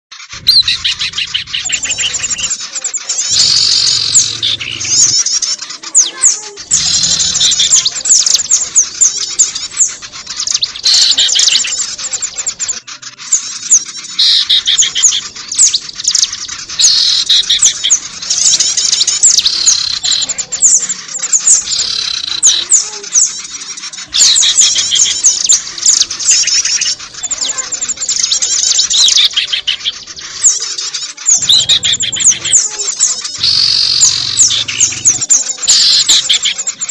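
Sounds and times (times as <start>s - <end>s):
small birds chirping chorus: 0.1s - 36.9s.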